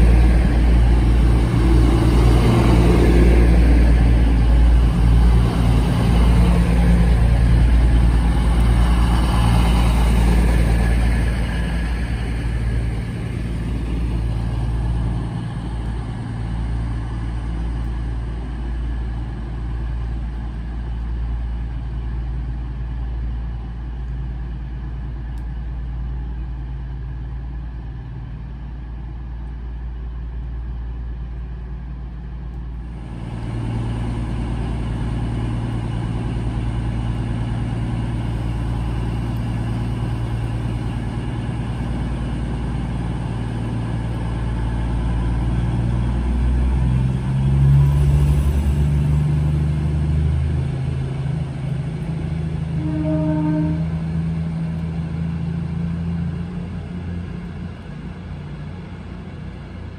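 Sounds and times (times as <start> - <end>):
train diesel engines: 0.0 - 59.9.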